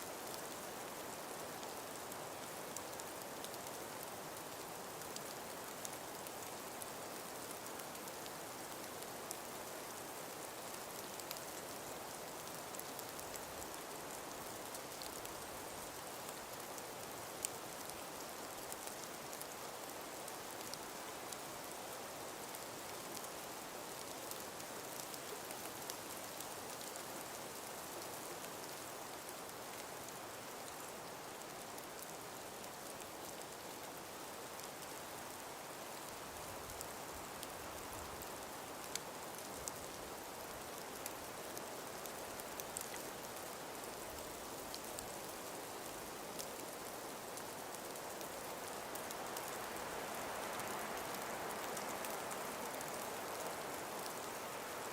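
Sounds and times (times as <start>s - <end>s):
soft outdoor hiss: 0.0s - 54.9s
faint pattering ticks: 0.2s - 54.9s.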